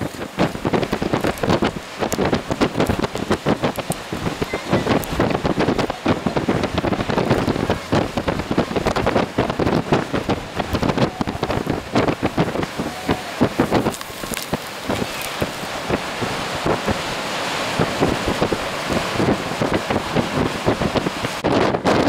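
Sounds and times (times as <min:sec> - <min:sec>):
rain hitting microphone: 0:00.0 - 0:21.6
storm wind rushing: 0:00.0 - 0:22.0.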